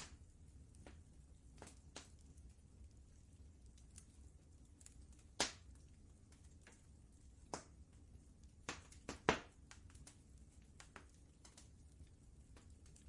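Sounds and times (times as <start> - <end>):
low steady rumble: 0.0 - 13.0
wood fire crackling: 0.0 - 13.0.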